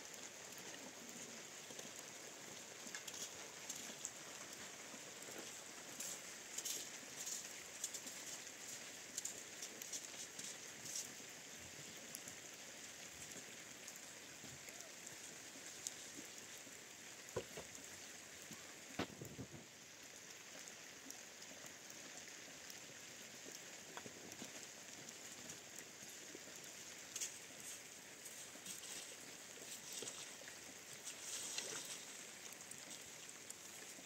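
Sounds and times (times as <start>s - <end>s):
rain hiss with drops: 0.0s - 34.0s.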